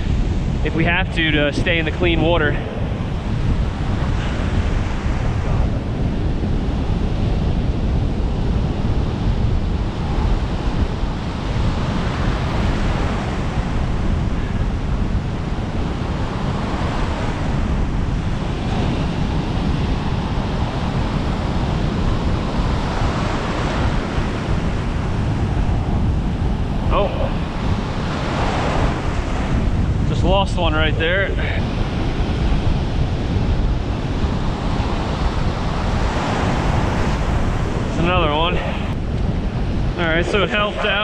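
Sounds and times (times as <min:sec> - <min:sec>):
ocean surf breaking: 0:00.0 - 0:41.0
wind rumble on microphone: 0:00.0 - 0:41.0.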